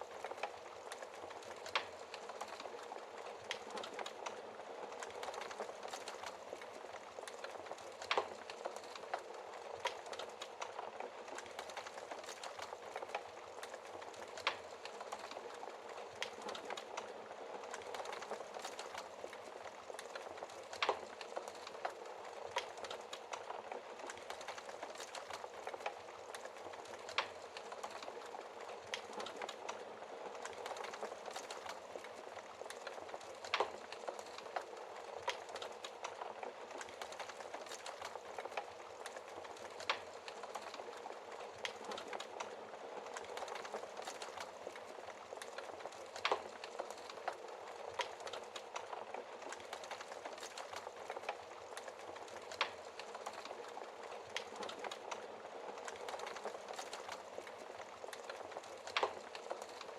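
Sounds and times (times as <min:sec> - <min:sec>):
wood fire crackling: 0:00.0 - 0:59.9
burning wood popping: 0:00.1 - 0:59.9.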